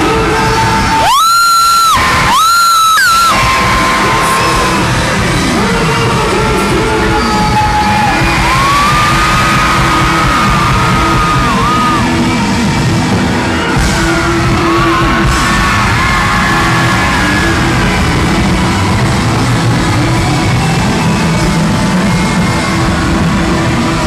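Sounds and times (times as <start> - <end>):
audience yelling and cheering: 0.0 - 24.0
live pop music: 0.0 - 24.0.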